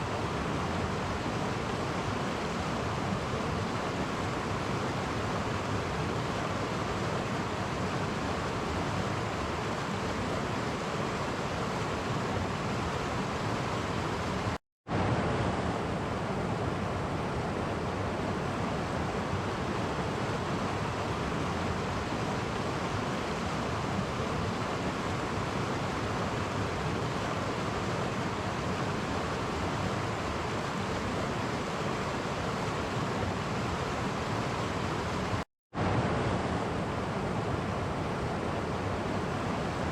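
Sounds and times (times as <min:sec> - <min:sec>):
stream flowing over cascades: 0:00.0 - 0:39.9.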